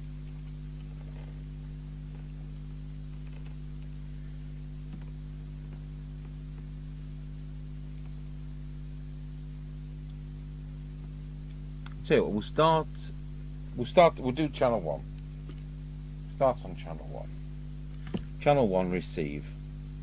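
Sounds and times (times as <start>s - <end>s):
mains hum: 0.0s - 20.0s.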